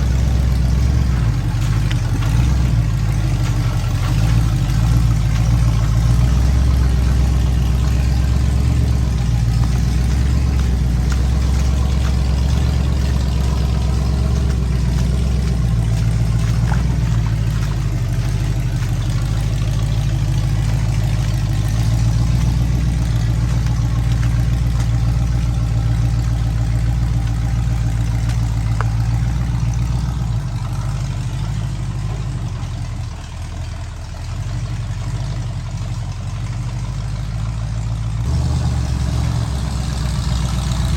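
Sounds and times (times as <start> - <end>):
truck engine running at low revs: 0.0 - 40.9.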